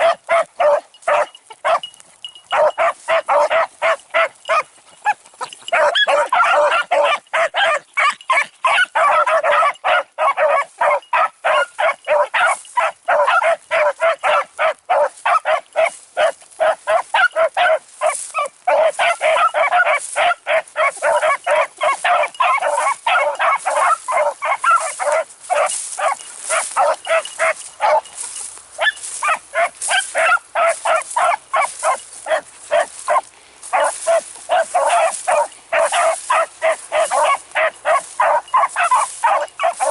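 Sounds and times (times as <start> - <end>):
hounds baying: 0.0 - 39.9.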